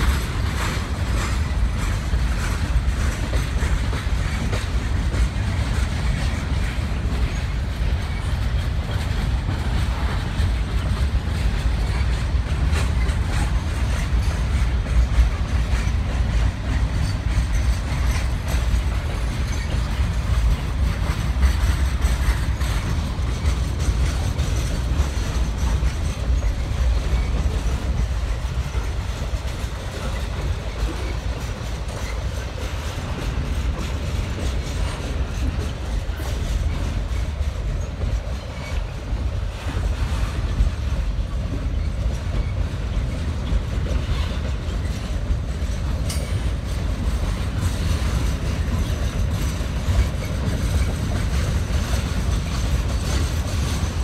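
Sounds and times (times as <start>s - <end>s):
train wheels rumbling on track: 0.0s - 54.0s
wheels clicking at rail joints: 0.0s - 54.0s.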